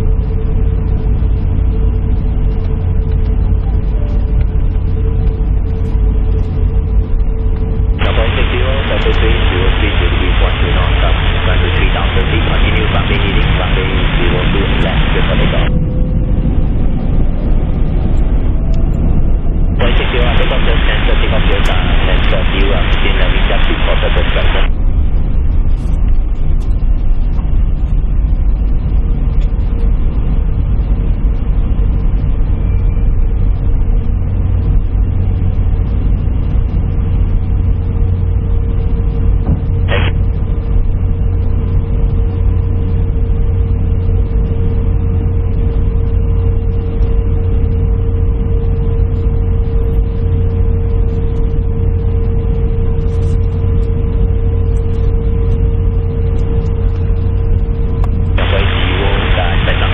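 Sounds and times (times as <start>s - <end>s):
jet airliner cabin rumble: 0.0s - 59.9s
steady hum-like tone: 0.0s - 59.9s.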